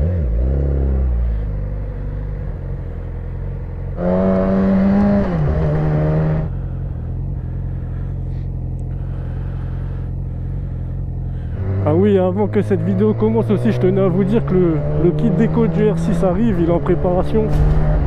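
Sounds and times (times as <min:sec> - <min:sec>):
sportbike engine revving: 0:00.0 - 0:18.0.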